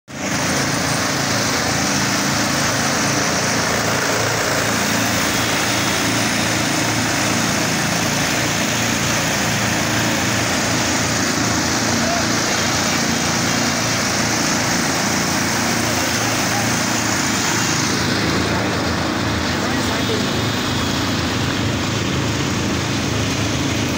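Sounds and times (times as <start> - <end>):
diesel engine drone: 0.1 - 23.9.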